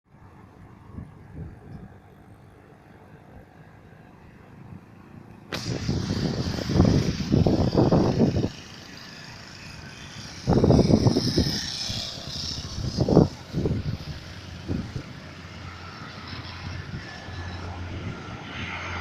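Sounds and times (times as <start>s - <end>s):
faint turboprop whine: 0.1s - 19.0s
wind buffeting microphone: 0.7s - 2.3s, 4.6s - 19.0s.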